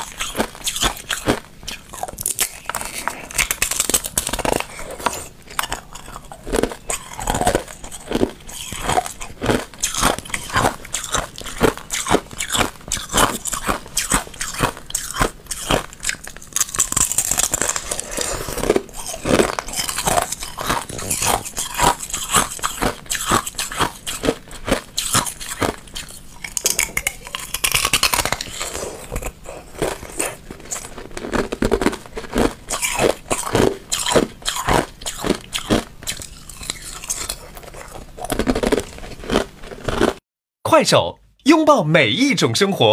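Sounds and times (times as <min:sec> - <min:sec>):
ice being chewed: 0:00.0 - 0:40.2.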